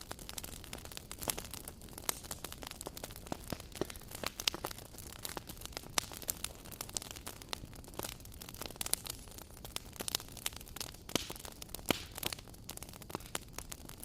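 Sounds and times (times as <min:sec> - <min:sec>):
soft fire hiss: 0:00.0 - 0:14.0
wood fire crackling and popping: 0:00.0 - 0:14.0.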